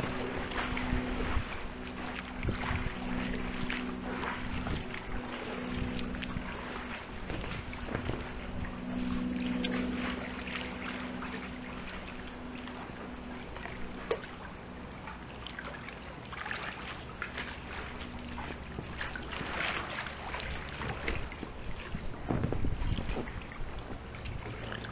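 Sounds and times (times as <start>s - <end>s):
steady low hum: 0.0s - 24.9s
water splashing and lapping: 0.0s - 24.9s.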